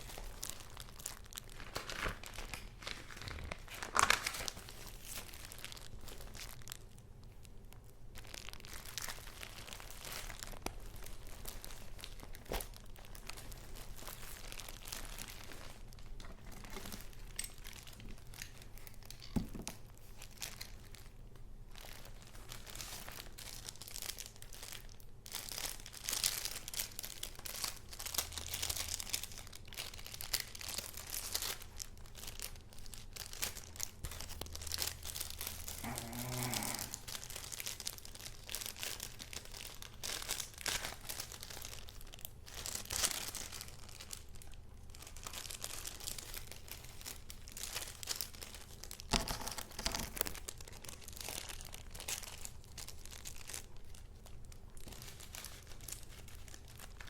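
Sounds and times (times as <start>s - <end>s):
paper rustling and crinkling: 0.0s - 6.9s, 8.2s - 21.1s, 21.8s - 57.0s.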